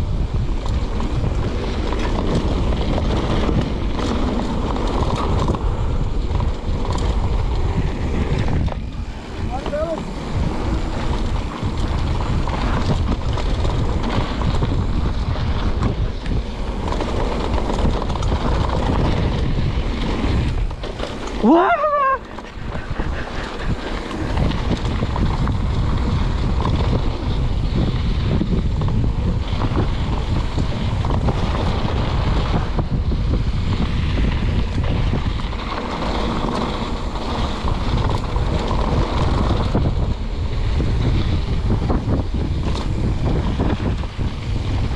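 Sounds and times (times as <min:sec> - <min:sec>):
mountain bike rumbling and rattling: 0:00.0 - 0:44.9
wind buffeting microphone: 0:00.0 - 0:44.9.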